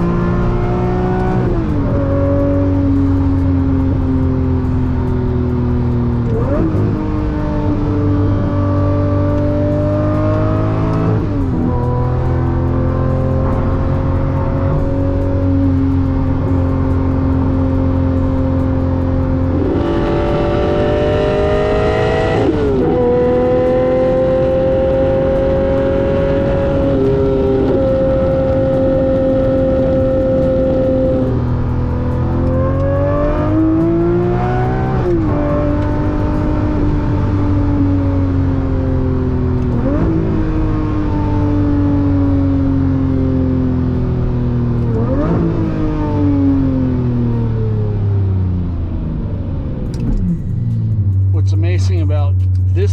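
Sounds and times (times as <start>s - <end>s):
sports car engine accelerating: 0.0s - 52.9s.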